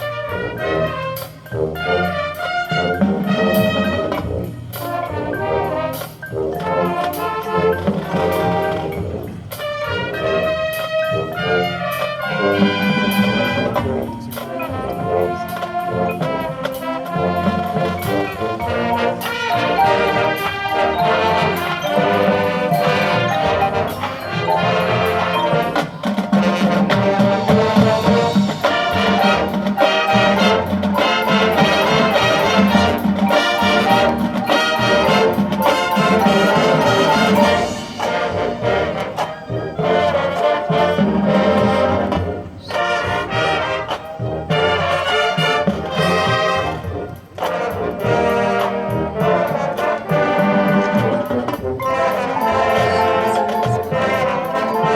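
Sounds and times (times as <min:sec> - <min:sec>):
brass band playing: 0:00.0 - 0:54.9.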